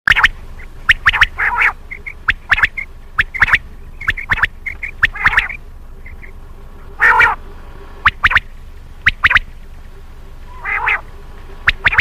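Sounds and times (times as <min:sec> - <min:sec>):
quail calling: 0:00.1 - 0:12.0.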